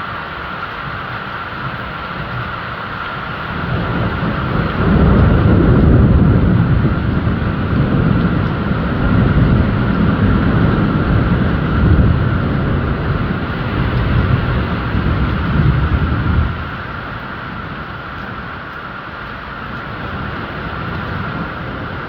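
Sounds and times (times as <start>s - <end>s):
heavy rain: 0.0s - 22.0s
thunder rumbling: 1.6s - 22.0s.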